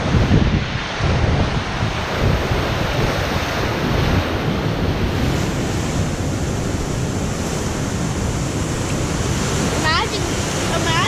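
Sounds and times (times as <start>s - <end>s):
ocean surf rushing: 0.0s - 11.0s
wind buffeting microphone: 0.0s - 11.0s.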